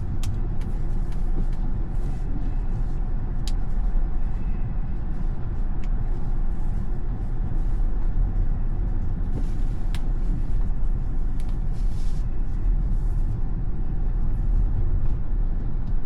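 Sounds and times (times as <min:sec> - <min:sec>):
road and wind noise in car cabin: 0:00.0 - 0:16.0.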